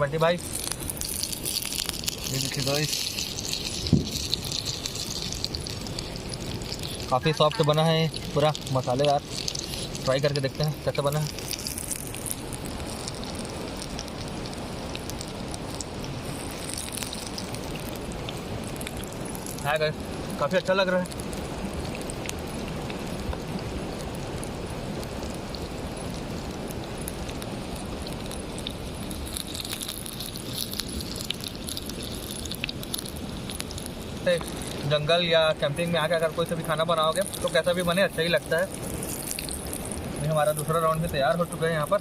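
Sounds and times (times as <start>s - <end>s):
fire crackling and hissing: 0.0s - 42.0s
food sizzling in hot oil: 0.0s - 42.0s.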